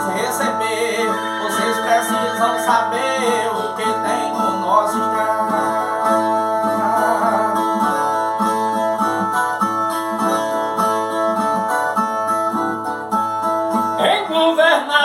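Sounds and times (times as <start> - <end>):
folk guitar plucked and strummed: 0.0 - 15.0.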